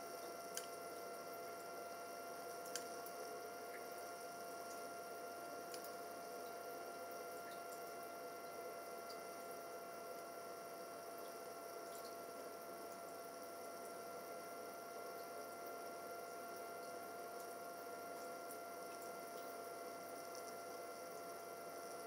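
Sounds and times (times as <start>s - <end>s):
cooling fan hum and whine: 0.0s - 22.0s.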